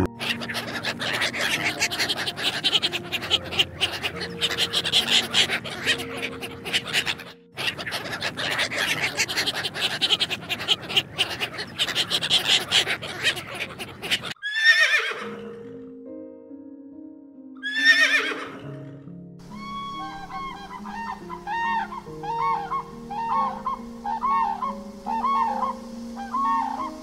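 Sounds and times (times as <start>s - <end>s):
ducks chattering calls: 0.0s - 14.4s, 19.4s - 27.0s.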